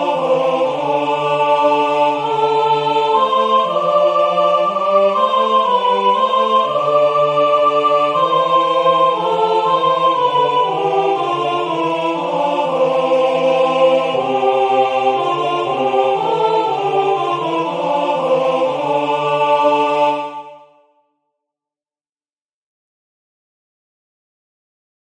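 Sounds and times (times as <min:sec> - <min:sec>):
two-part choir singing a hymn: 0:00.0 - 0:21.0.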